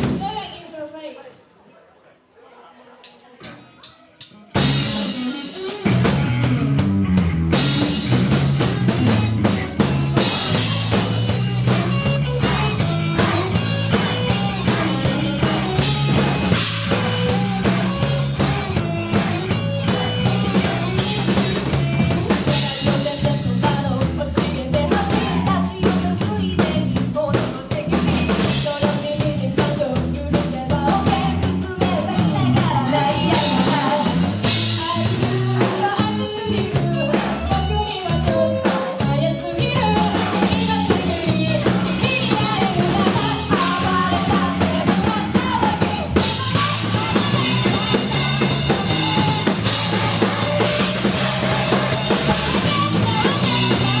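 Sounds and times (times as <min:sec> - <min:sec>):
band music: 0:00.0 - 0:01.1, 0:03.0 - 0:54.0.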